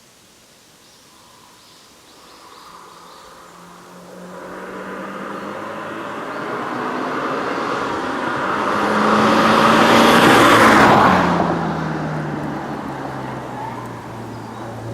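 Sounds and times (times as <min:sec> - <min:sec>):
car engine driving past: 0:02.7 - 0:14.9.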